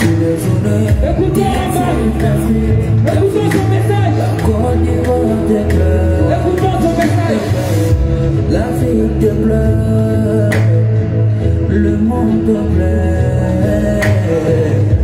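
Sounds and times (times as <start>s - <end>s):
live music over sound system: 0.0s - 15.0s
person singing: 0.0s - 15.0s.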